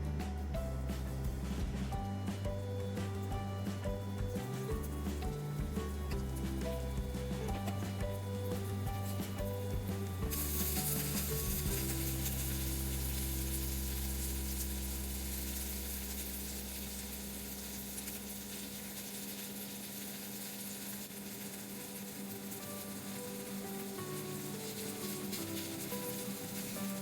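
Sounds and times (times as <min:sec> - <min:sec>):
food sizzling in a frying pan: 0:02.5 - 0:27.0.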